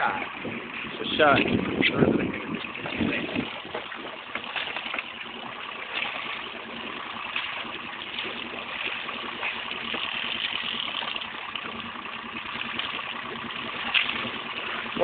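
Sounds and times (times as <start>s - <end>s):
faint steady hum: 0.0s - 15.0s
water rushing against hull: 0.0s - 15.0s.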